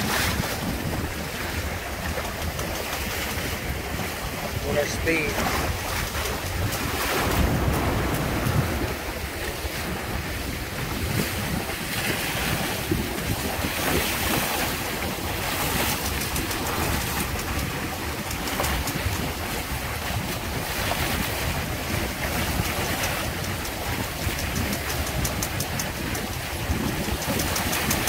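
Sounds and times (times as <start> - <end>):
water rushing along boat hulls: 0.0 - 28.0
wind buffeting microphone: 0.0 - 28.0.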